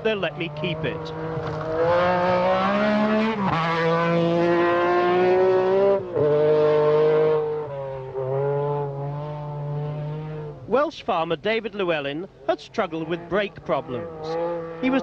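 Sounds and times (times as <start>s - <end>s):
rally car engine at high revs: 0.0s - 10.7s, 12.3s - 15.0s.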